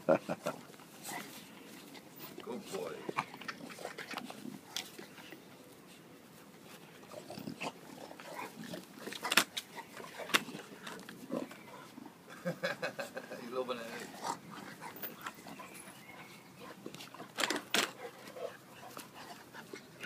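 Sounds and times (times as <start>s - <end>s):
dogs play-fighting: 0.2s - 2.4s, 3.0s - 12.3s, 13.8s - 20.0s.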